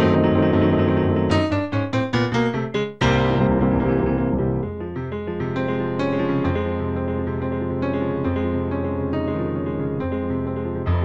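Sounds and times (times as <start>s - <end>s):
piano notes: 0.0s - 11.0s.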